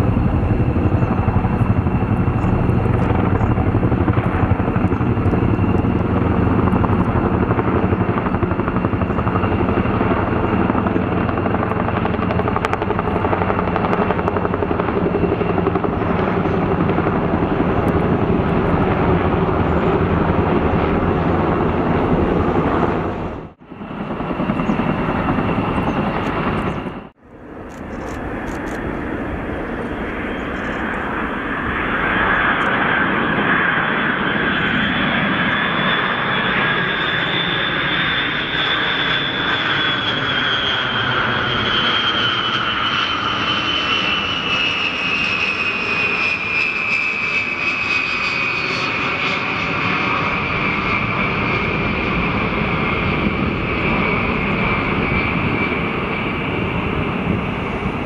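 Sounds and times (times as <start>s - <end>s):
high jet whine falling in pitch: 0.0s - 58.0s
jet engines rumbling: 0.0s - 58.0s.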